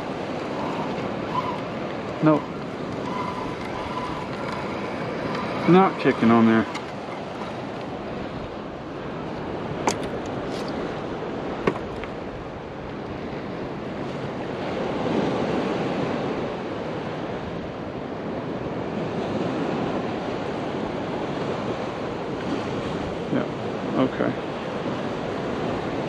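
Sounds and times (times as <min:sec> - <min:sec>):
ocean surf washing onto beach: 0:00.0 - 0:26.0.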